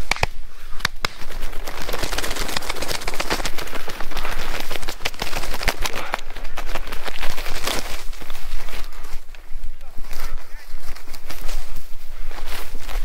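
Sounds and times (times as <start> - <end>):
dry grass crackling underfoot: 0.0 - 13.0.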